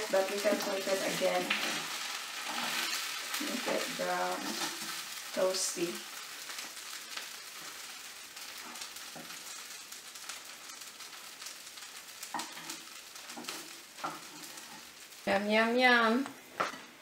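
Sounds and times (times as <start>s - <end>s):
sandwich sizzling in a skillet: 0.0s - 17.0s.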